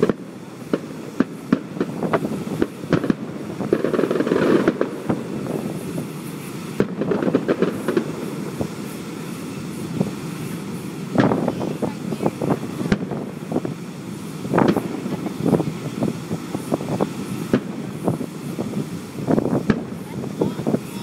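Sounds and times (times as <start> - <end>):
firework bangs and crackles: 0.0 - 21.0
rumble of explosions: 0.0 - 21.0.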